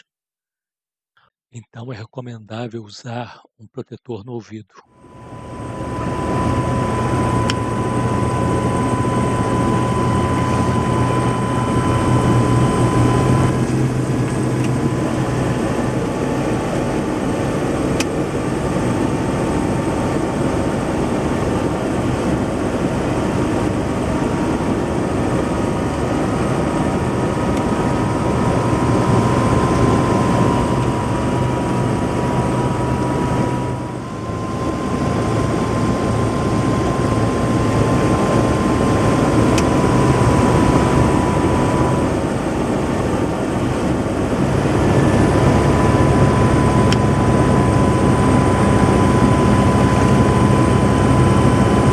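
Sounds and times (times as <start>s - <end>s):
helicopter rotor and engine: 5.0s - 51.9s.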